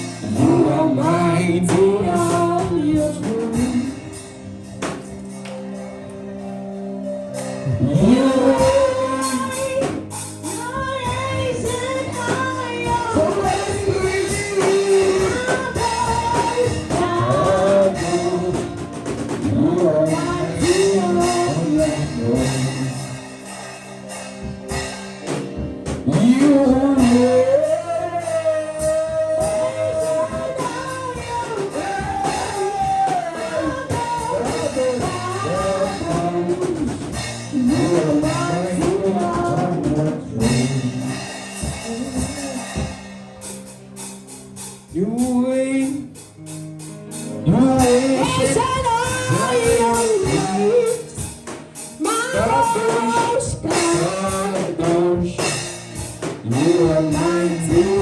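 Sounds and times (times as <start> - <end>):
person singing: 0.0 - 23.6, 26.0 - 43.8, 44.9 - 46.5, 47.2 - 58.0
instrumental backing music: 0.0 - 58.0.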